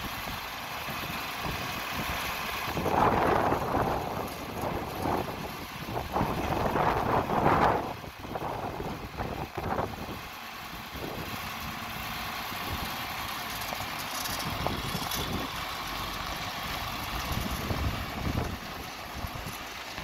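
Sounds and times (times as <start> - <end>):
tractor engine running: 0.0 - 20.0
tyres on gravel: 0.0 - 20.0.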